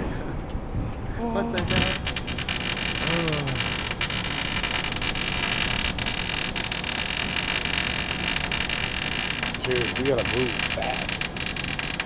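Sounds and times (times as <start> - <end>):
sharp welding pops: 1.6 - 12.0
welding arc crackling and hissing: 1.6 - 12.0.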